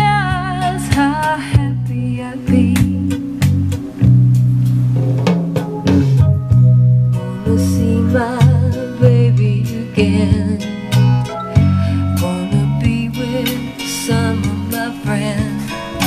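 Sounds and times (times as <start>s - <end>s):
music with guitar bass and voice: 0.0s - 16.0s.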